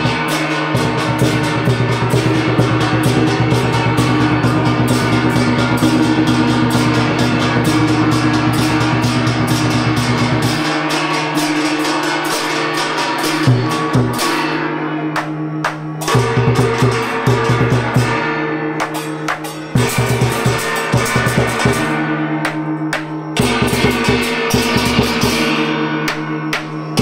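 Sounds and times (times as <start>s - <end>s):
gongs ringing: 0.0s - 27.0s.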